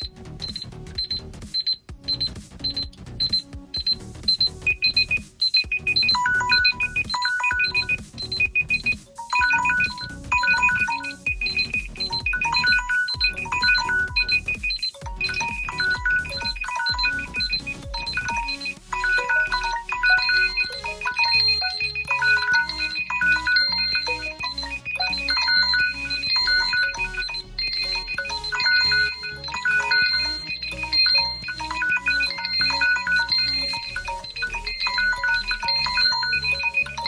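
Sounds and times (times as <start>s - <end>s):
electronic melody with low beat: 0.0s - 37.0s
rapid high alarm beeps: 0.0s - 37.0s.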